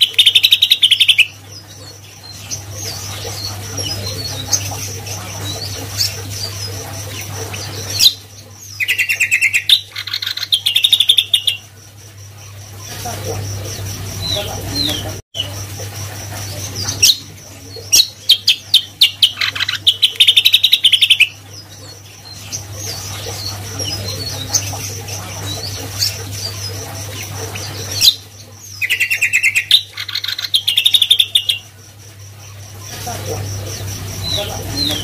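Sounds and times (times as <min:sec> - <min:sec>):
bird singing: 0:00.0 - 0:15.7, 0:16.3 - 0:35.0
steady low hum: 0:00.0 - 0:35.0.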